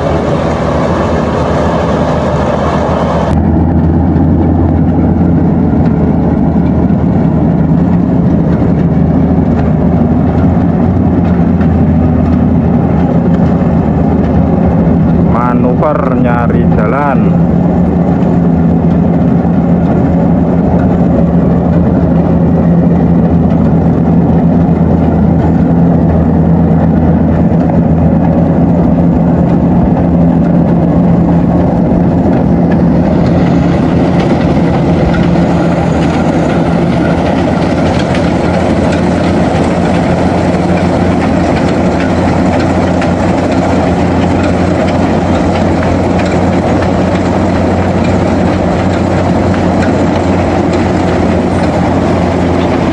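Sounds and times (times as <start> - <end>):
harvester diesel engine running: 0.0 - 52.9
mechanical clatter: 0.0 - 52.9.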